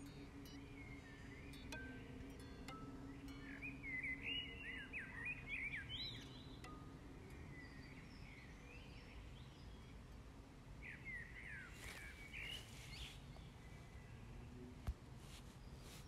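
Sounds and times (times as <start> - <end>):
bird chirps: 0.0 - 10.0, 10.8 - 14.5.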